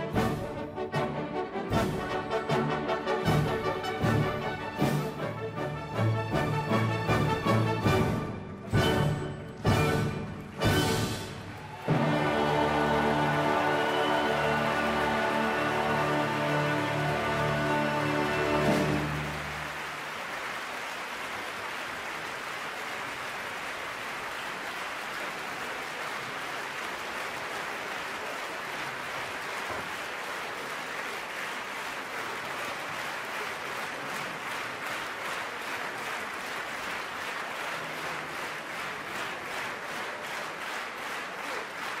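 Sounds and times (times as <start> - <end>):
audience applauding: 1.8 - 42.0.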